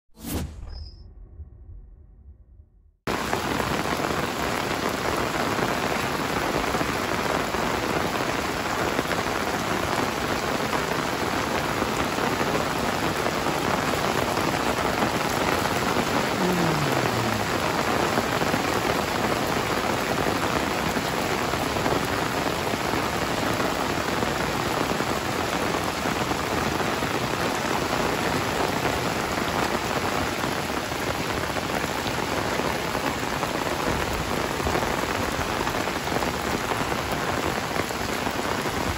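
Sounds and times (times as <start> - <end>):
heavy rain on pavement: 3.1 - 38.9.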